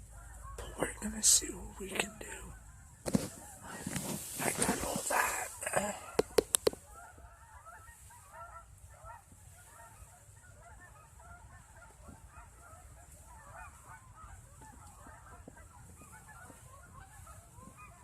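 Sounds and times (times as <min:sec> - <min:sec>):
faint geese honking: 0:00.0 - 0:18.0.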